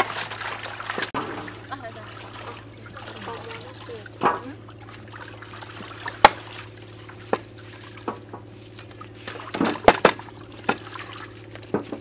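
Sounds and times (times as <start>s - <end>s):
water sloshing and trickling: 0.0s - 12.0s.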